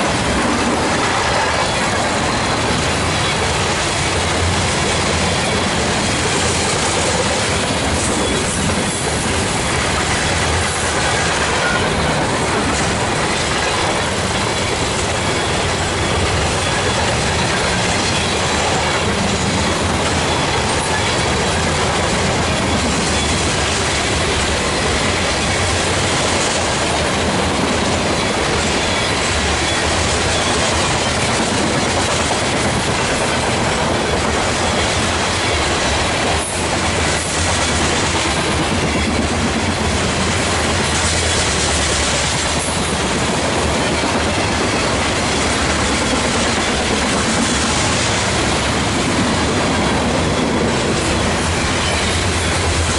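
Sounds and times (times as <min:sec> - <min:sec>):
train wheels rolling on track: 0:00.0 - 0:52.9.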